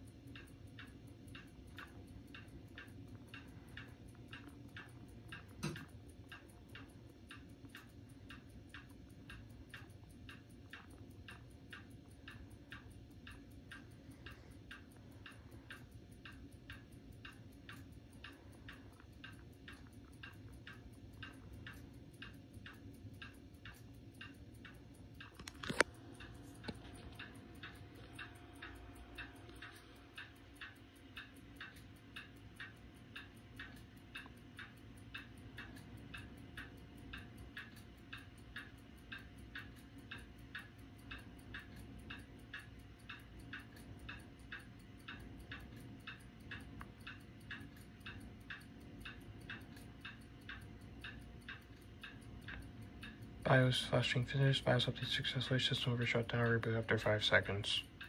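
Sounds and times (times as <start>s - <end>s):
faint hum: 0.0s - 58.0s
wall clock ticking: 0.0s - 58.0s.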